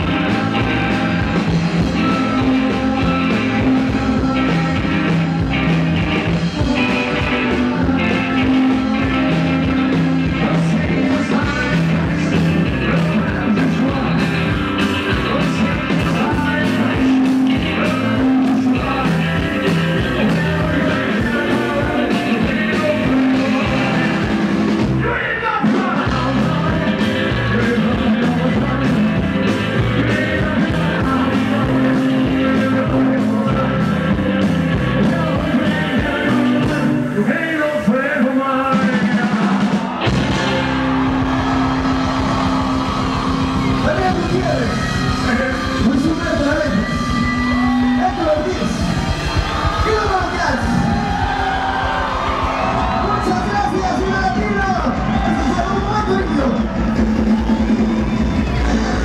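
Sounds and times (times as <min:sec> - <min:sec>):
man singing: 0:00.0 - 0:40.1, 0:43.8 - 0:50.9, 0:58.4 - 0:59.0
drums: 0:00.0 - 0:59.0
electric guitar: 0:00.0 - 0:59.0
upright bass walking line: 0:00.0 - 0:59.0.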